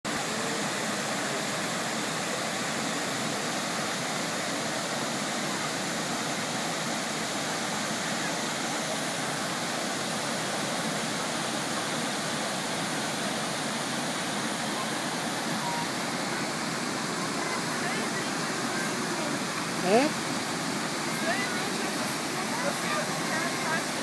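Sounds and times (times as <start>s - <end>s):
waterfall rushing: 0.1s - 24.0s.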